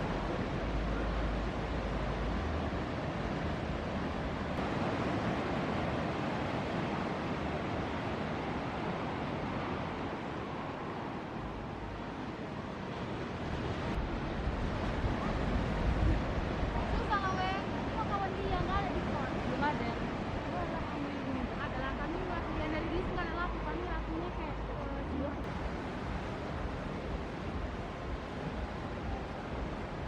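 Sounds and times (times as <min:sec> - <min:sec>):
ocean surf rushing: 0:00.0 - 0:30.0
wind buffeting microphone: 0:00.0 - 0:30.0.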